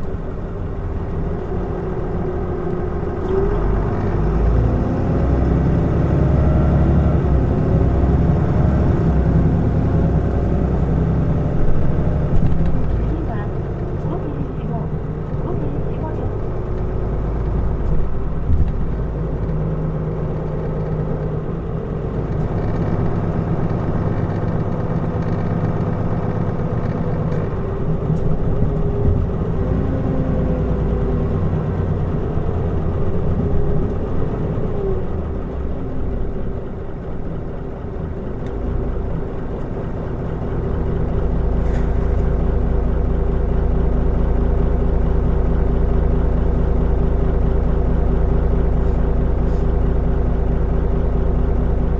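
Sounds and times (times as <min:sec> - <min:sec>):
bus diesel engine running: 0:00.0 - 0:51.9
road rumble: 0:00.0 - 0:51.9.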